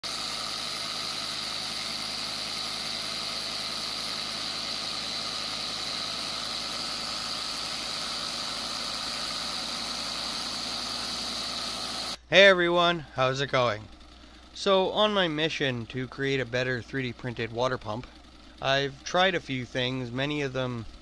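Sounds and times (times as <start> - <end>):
motor-driven water pump whining: 0.0 - 12.2, 12.9 - 21.0.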